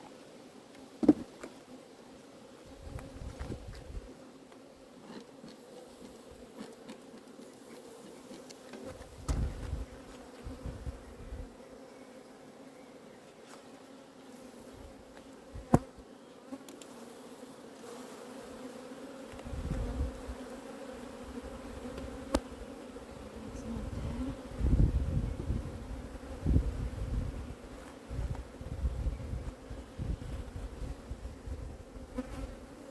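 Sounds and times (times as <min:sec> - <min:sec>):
honeybees buzzing: 0:00.7 - 0:32.9.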